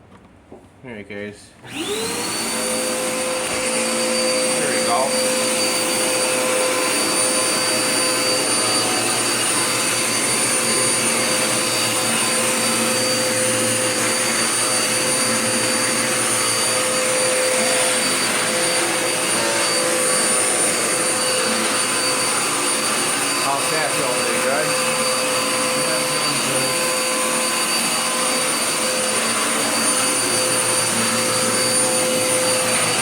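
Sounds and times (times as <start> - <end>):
vacuum cleaner running: 1.6 - 33.0.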